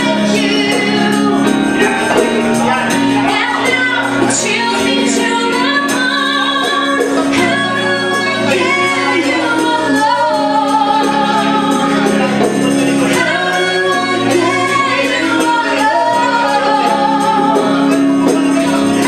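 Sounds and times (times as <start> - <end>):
keyboard accompaniment: 0.0 - 19.0
light percussion beat: 0.0 - 19.0
man singing harmony: 0.0 - 19.0
woman singing a rock ballad: 0.0 - 19.0.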